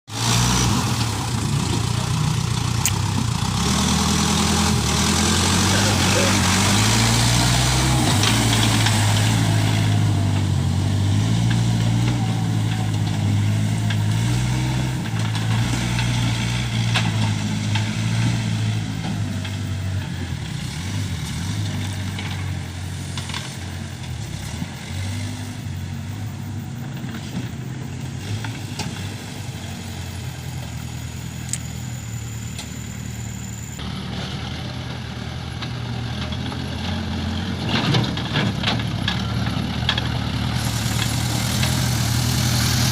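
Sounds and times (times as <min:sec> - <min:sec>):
diesel engine running: 0:00.1 - 0:42.9.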